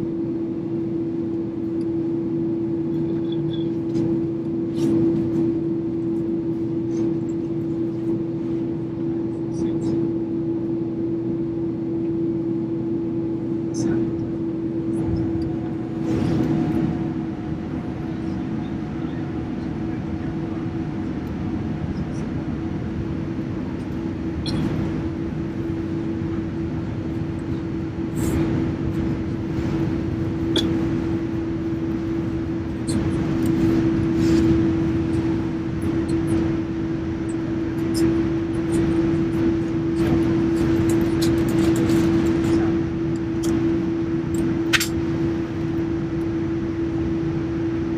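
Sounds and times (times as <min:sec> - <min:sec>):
jet engines idling: 0:00.0 - 0:47.9.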